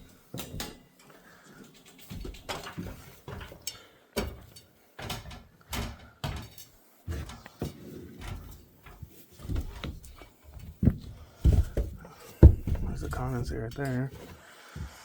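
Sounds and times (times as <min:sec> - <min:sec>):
irregular knocks and clunks: 0:01.9 - 0:14.1.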